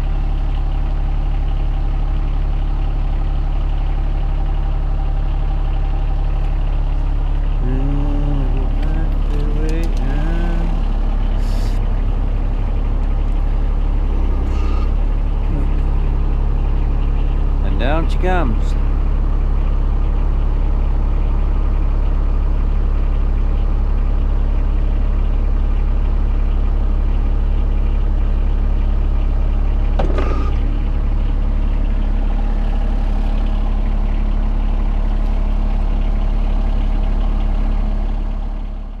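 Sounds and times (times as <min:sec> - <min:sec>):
diesel tractor engine idling: 0:00.0 - 0:39.0.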